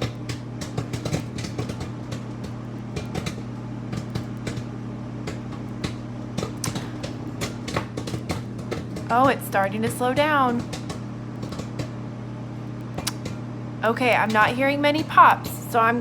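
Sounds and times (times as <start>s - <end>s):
microwave oven hum: 0.0s - 16.0s
popcorn popping: 0.0s - 16.0s.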